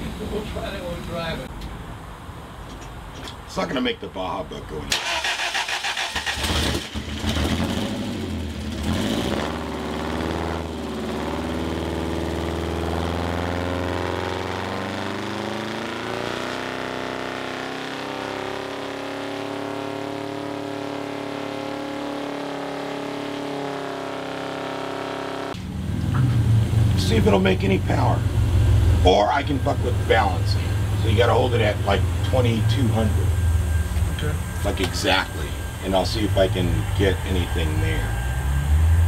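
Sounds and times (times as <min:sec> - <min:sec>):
car engine running on dyno: 0:06.3 - 0:39.0.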